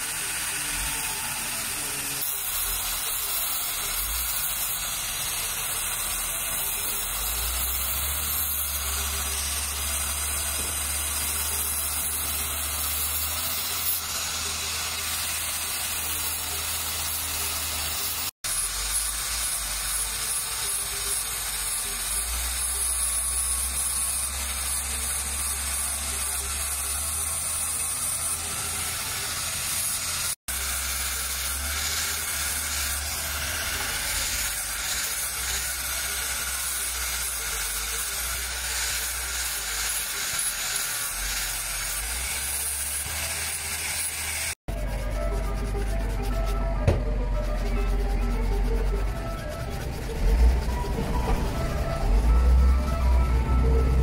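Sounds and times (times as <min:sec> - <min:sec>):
angle grinder sanding: 0:00.0 - 0:54.0.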